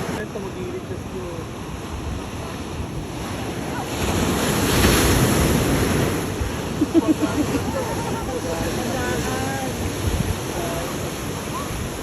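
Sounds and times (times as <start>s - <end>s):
ocean waves: 0.0s - 12.0s
wind buffeting microphone: 0.0s - 12.0s.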